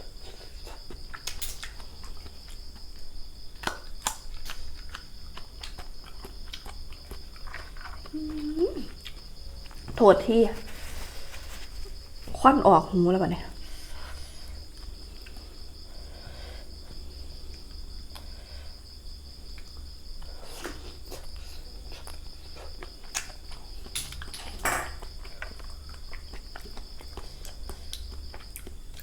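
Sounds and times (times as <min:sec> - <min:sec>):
crickets chirring: 0:00.0 - 0:29.0
low background hum: 0:00.0 - 0:29.0.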